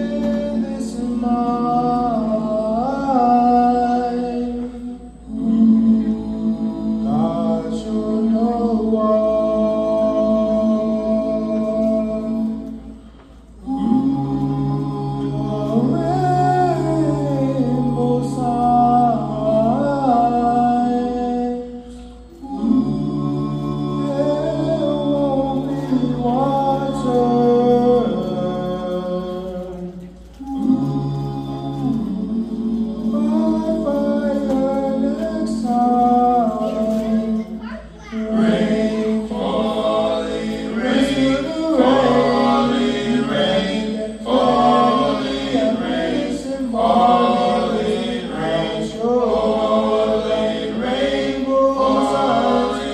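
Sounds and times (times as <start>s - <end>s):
a cappella choir singing: 0.0s - 52.9s.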